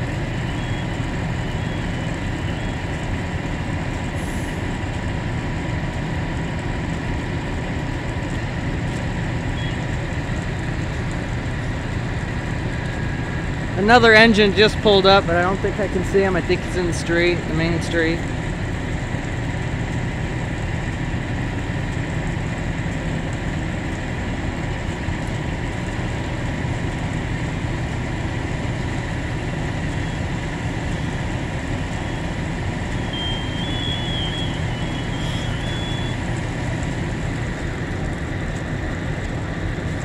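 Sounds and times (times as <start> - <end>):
diesel engines idling: 0.0 - 40.0.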